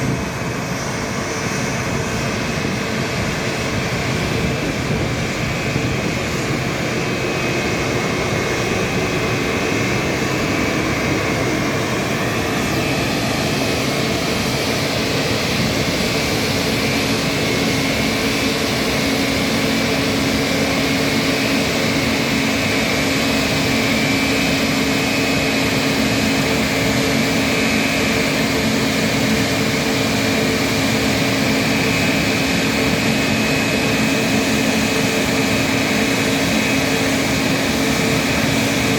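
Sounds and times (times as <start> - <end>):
jet engines running with whine: 0.0 - 38.9.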